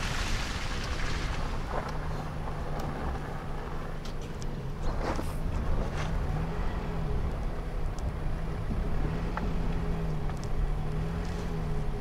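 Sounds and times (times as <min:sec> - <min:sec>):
car engine hum: 0:00.0 - 0:12.0
tyres rumbling on snowy track: 0:00.0 - 0:12.0.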